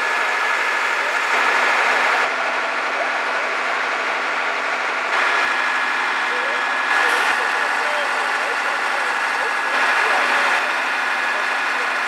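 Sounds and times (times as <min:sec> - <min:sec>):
fire engine idling: 0:00.0 - 0:12.0.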